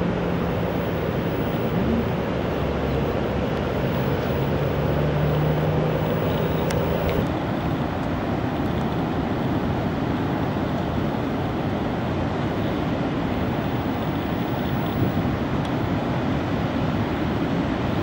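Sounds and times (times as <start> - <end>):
low engine hum: 0.0 - 18.0
ocean surf: 0.0 - 18.0
wind noise: 0.0 - 18.0.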